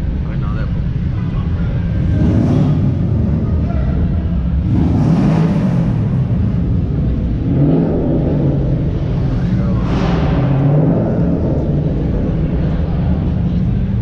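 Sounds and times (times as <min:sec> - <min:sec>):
car exhaust rumbling: 0:00.0 - 0:14.0.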